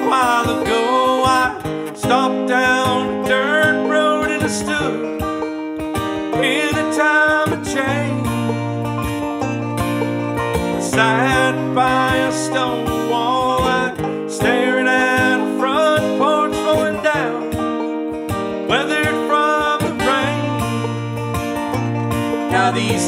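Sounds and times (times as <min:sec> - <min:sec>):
person singing: 0:00.0 - 0:05.4, 0:06.2 - 0:08.8, 0:10.7 - 0:18.0, 0:18.6 - 0:21.2, 0:22.3 - 0:23.0
acoustic guitar strumming: 0:00.0 - 0:23.0
banjo picking: 0:00.0 - 0:23.0.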